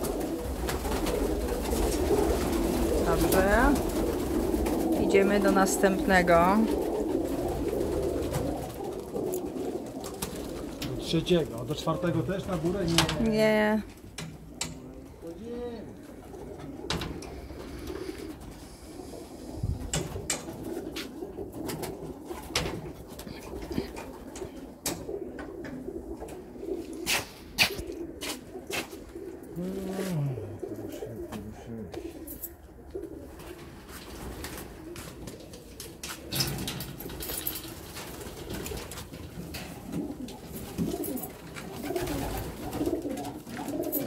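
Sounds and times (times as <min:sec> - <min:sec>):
pigeons cooing: 0:00.0 - 0:44.0.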